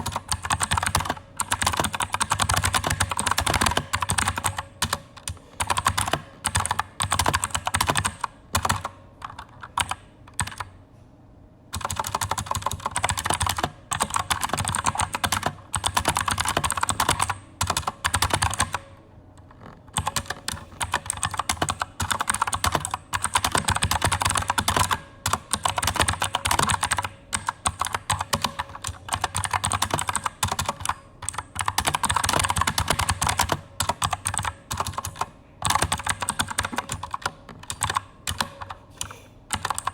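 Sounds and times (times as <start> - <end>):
fast typing on mechanical keyboard: 0.0 - 10.7, 11.7 - 38.8, 39.5 - 39.9.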